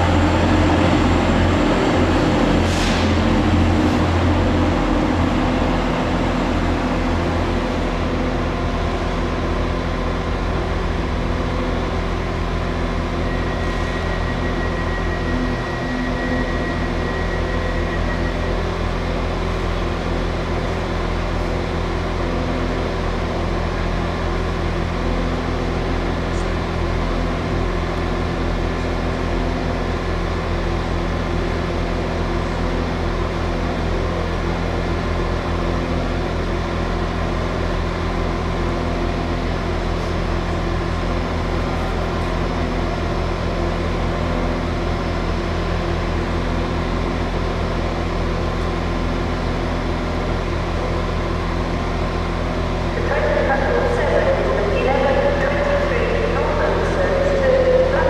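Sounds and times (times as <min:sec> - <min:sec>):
idling train hum: 0:00.0 - 0:58.0.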